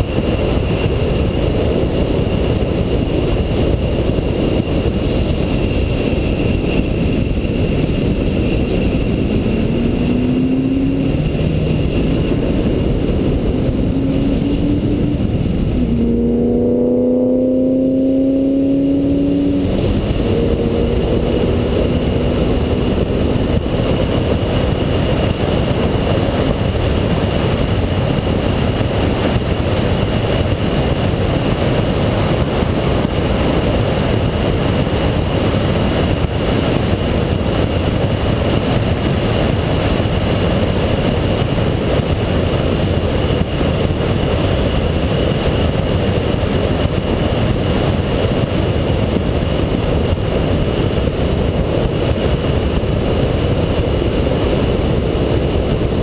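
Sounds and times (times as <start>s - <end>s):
car engine at constant speed: 0.0s - 56.0s
wind and road noise: 0.0s - 56.0s.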